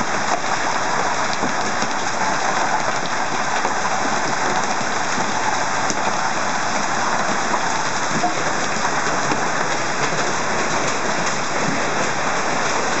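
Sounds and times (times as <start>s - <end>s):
hailstones ticking: 0.0s - 13.0s
heavy rain: 0.0s - 13.0s.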